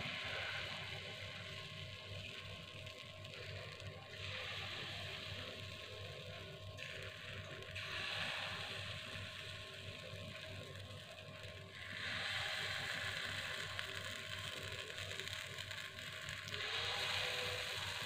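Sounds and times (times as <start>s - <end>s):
batter sizzling in hot mold: 0.0s - 18.0s.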